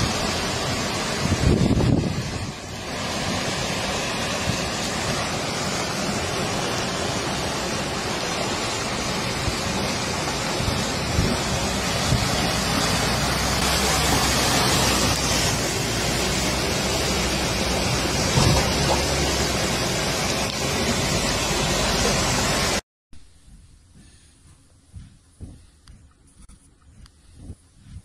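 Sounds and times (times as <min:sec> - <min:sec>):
floodwater rushing down street: 0:00.0 - 0:22.8.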